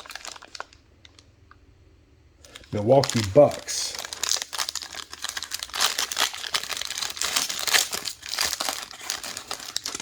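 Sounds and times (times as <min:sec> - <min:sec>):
plastic wrapping crinkling: 0:00.0 - 0:01.6, 0:02.4 - 0:10.0.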